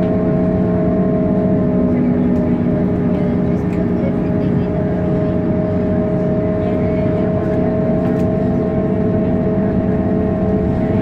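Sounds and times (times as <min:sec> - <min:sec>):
droning whine: 0:00.0 - 0:11.0
vehicle engine and road noise: 0:00.0 - 0:11.0.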